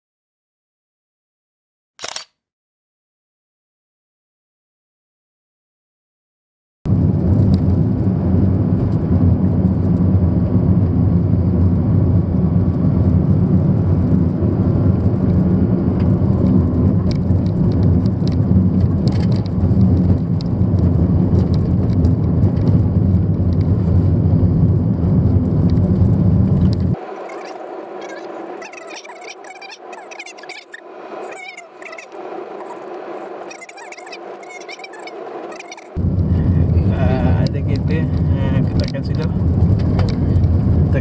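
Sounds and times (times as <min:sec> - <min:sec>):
car engine and tyre rumble: 0:06.9 - 0:41.0.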